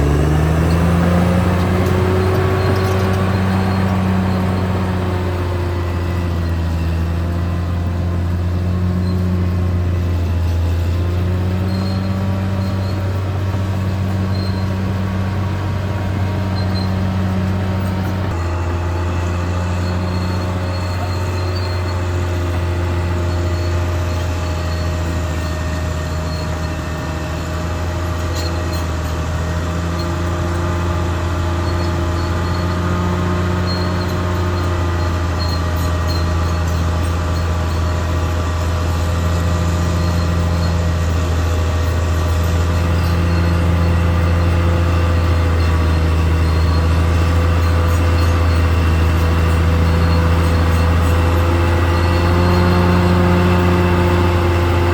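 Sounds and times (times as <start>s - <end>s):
bulldozer engine droning: 0.0s - 54.9s.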